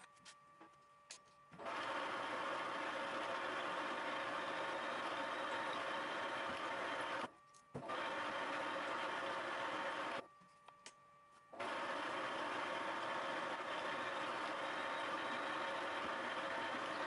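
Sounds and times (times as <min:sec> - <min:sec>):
milling machine running: 0:01.6 - 0:10.2, 0:11.6 - 0:17.0.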